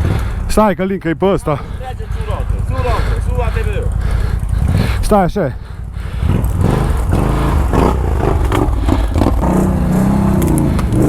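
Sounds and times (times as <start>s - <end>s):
atv engine revving: 0.0s - 11.0s
engine clatter: 0.0s - 11.0s.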